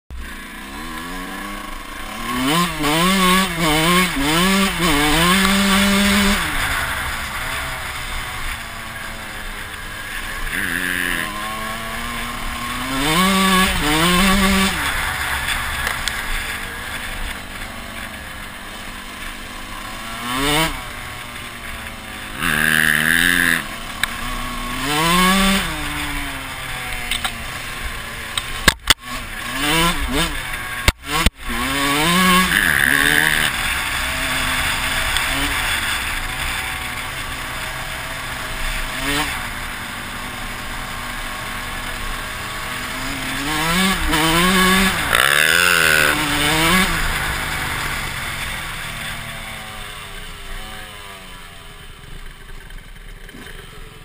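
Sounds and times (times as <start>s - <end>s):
dirt bike engine revving: 0.1s - 54.0s.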